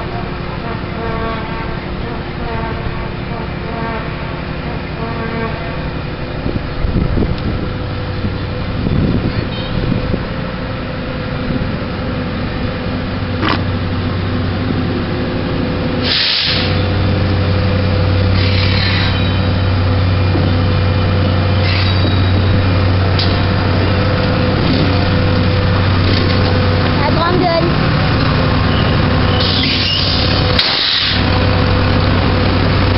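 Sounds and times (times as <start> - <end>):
diesel locomotive engine: 0.0 - 32.9.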